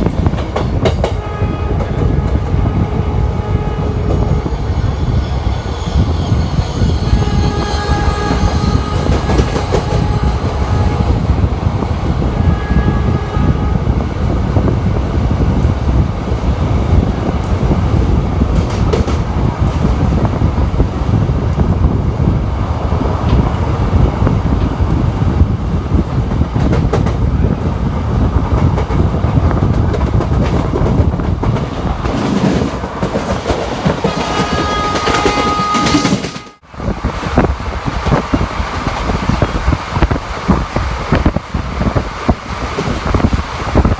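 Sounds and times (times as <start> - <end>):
train wheels clattering on track: 0.0 - 3.2, 3.8 - 43.9.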